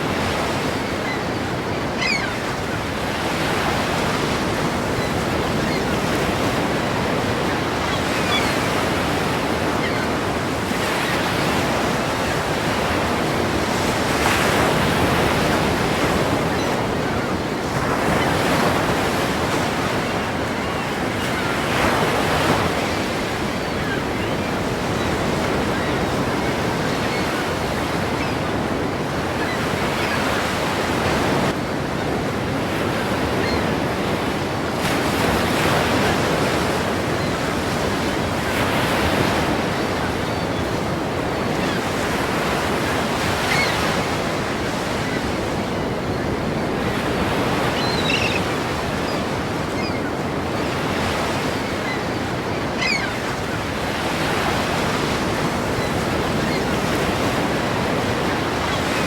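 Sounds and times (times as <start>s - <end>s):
ocean waves crashing: 0.0s - 59.0s.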